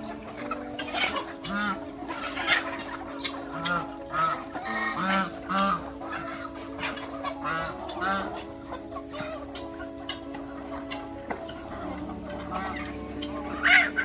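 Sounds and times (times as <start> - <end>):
droning held tones: 0.0 - 14.0
poultry calling: 0.0 - 14.0.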